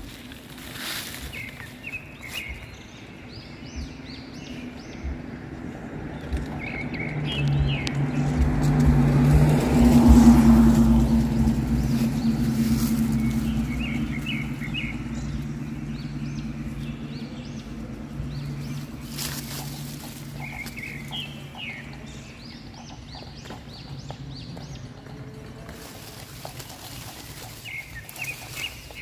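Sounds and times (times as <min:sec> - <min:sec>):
low engine hum: 0:00.0 - 0:29.0
bird chirping: 0:01.2 - 0:29.0.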